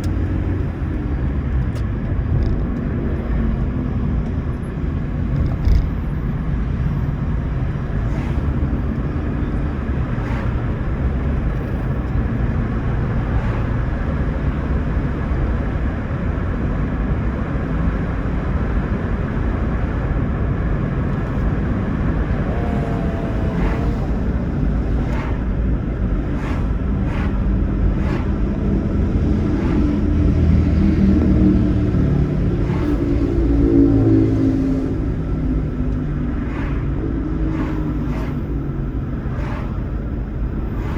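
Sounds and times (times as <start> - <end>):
car road and tyre noise: 0.0 - 40.9.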